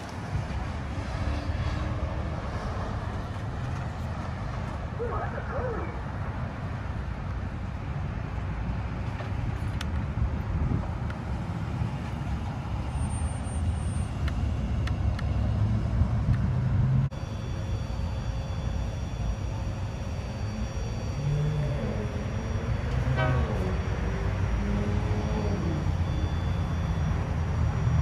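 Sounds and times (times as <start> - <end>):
road traffic: 0.0 - 28.0
truck engine rumble: 0.0 - 28.0.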